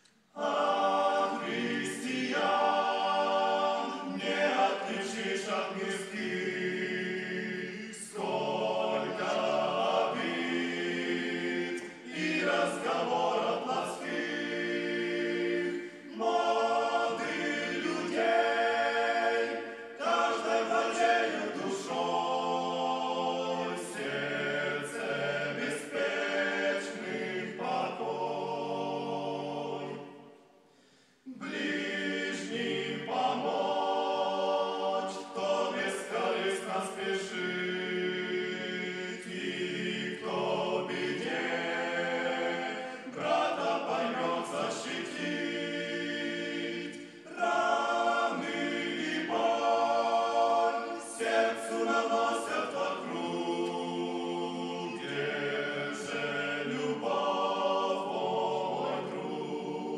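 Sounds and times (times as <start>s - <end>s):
group singing a cappella: 0.0s - 59.9s.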